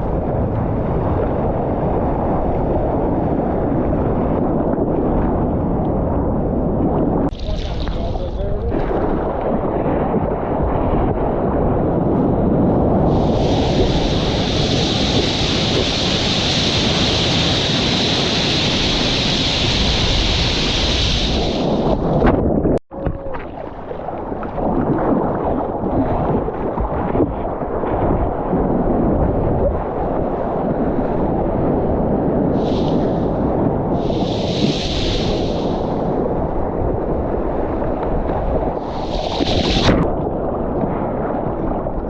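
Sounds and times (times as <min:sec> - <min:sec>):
wind buffeting microphone: 0:00.0 - 0:42.0
waves churning: 0:06.9 - 0:42.0.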